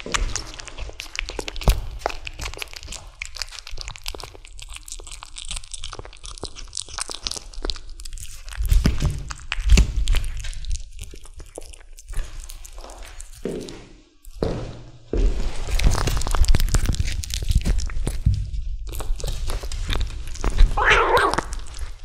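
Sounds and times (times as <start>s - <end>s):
kitten chewing: 0.0s - 13.4s, 15.7s - 22.0s.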